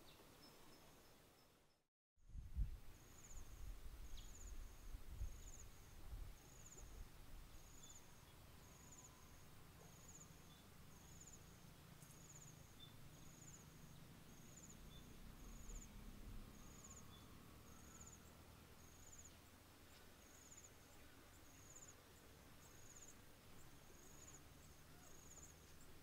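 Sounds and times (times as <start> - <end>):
insect chirping trill: 2.9 - 19.4, 20.2 - 22.0, 22.6 - 26.0.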